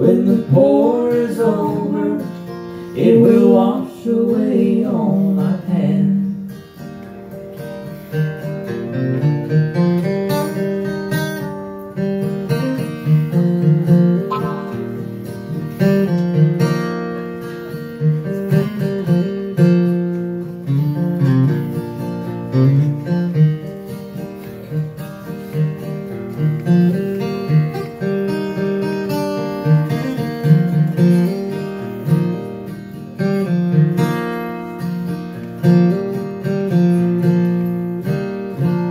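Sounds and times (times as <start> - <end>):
acoustic guitar picking and strumming: 0.0 - 38.9.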